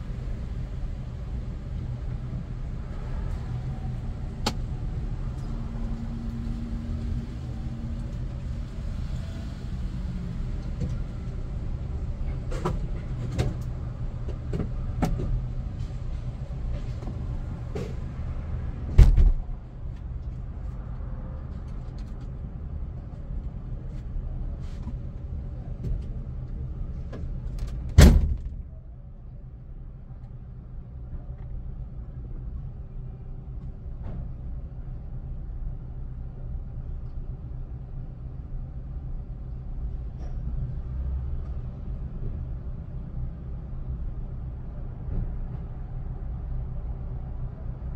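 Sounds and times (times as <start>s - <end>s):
car engine rumbling: 0.0s - 47.9s.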